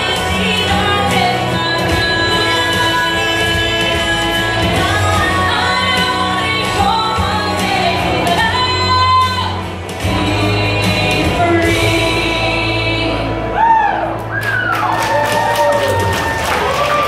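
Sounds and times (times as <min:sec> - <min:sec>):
woman singing into a microphone: 0:00.0 - 0:14.1.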